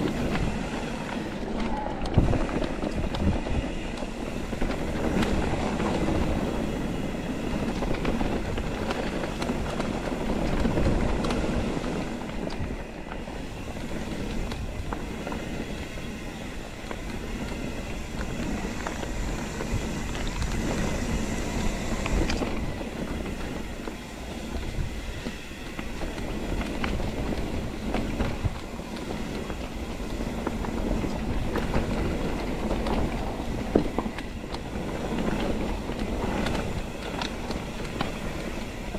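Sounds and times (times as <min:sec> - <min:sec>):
bike rattling and clicking: 0:00.0 - 0:38.9
bike tyres rumbling on dirt: 0:00.0 - 0:38.9.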